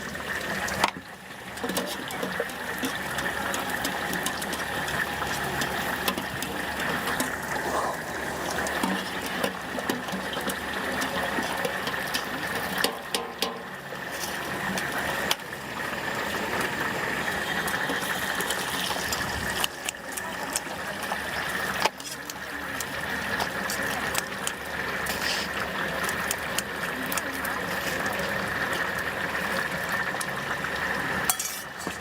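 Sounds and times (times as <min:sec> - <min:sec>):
tofu sizzling in hot oil: 0:00.1 - 0:32.0.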